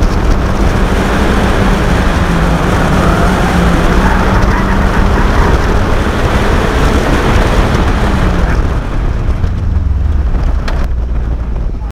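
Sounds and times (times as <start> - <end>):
car engine running: 0.0 - 11.9
wind buffeting microphone: 0.0 - 11.9.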